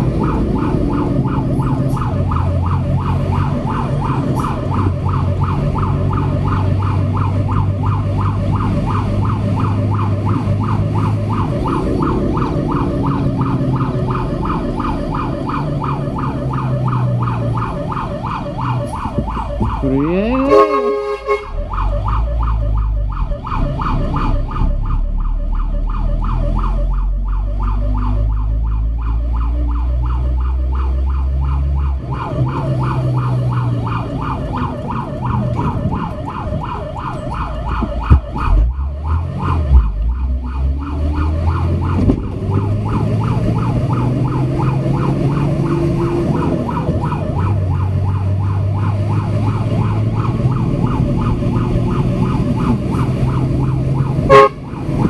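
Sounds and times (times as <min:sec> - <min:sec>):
fire truck siren yelping: 0:00.0 - 0:55.0
rising siren tone: 0:00.0 - 0:55.0
truck engine hum: 0:00.0 - 0:55.0.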